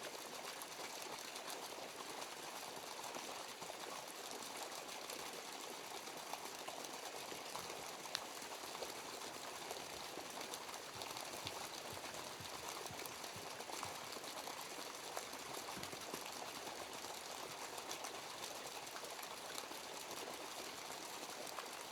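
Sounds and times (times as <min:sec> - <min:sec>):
stream running: 0:00.0 - 0:21.9.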